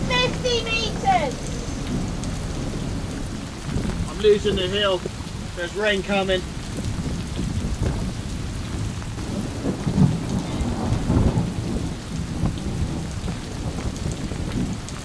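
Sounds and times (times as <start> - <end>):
rain hissing: 0.0 - 15.0
wind buffeting microphone: 0.0 - 15.0.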